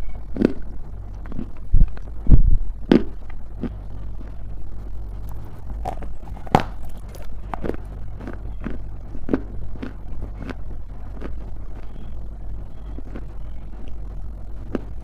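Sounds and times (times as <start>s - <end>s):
steady low hum: 0.0s - 15.0s
clay crunching while chewed: 0.3s - 2.1s, 2.9s - 15.0s.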